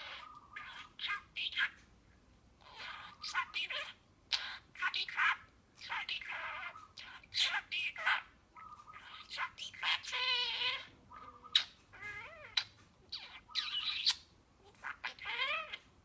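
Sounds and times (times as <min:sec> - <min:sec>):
budgerigar chattering: 0:00.0 - 0:01.8, 0:02.6 - 0:15.8.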